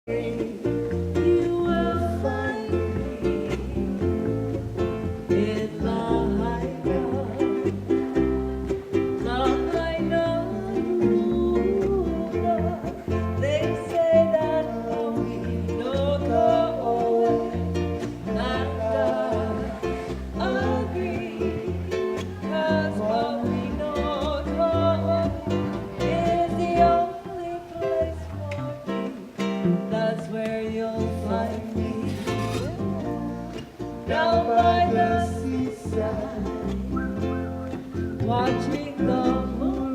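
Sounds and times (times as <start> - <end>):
person singing: 0.0 - 39.9
plucked strings: 0.1 - 39.9
bass line: 0.5 - 27.1, 31.0 - 39.8.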